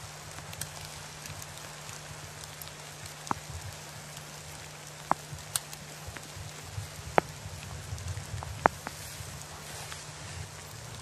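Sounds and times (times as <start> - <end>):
footsteps through dry grass: 0.0 - 11.0
low steady hum: 0.0 - 11.0.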